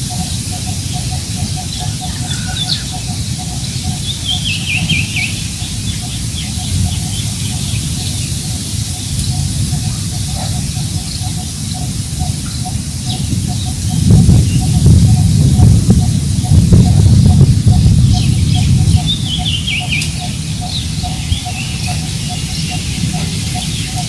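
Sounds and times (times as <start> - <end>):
birds chirping: 0.0 - 24.0
wind on microphone: 0.0 - 24.0.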